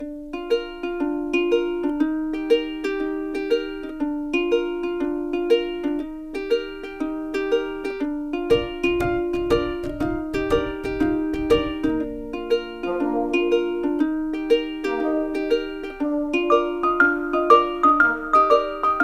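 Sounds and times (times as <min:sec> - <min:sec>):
plucked-string tune: 0:00.0 - 0:19.0.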